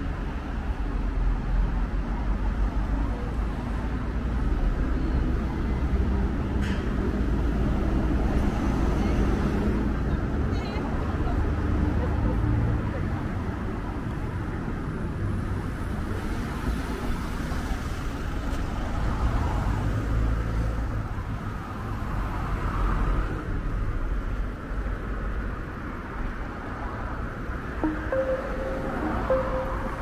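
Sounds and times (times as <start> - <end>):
cars passing on road: 0.0 - 30.0.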